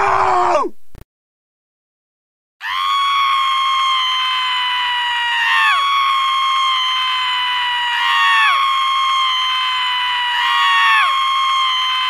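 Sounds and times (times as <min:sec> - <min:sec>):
high-pitched human screaming: 0:00.0 - 0:00.7, 0:02.6 - 0:12.0.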